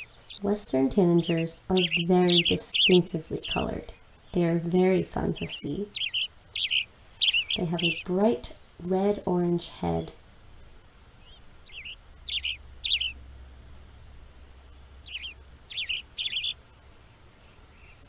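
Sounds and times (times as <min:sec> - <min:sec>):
bird chirping song phrases: 0:00.0 - 0:10.2, 0:11.2 - 0:13.2, 0:14.6 - 0:18.0.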